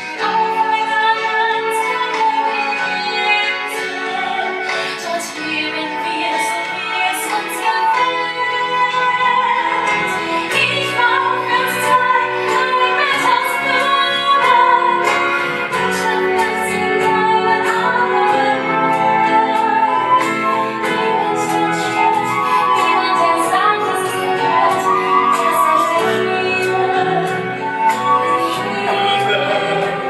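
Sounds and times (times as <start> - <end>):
instrumental accompaniment: 0.0 - 30.0
woman singing: 0.0 - 30.0.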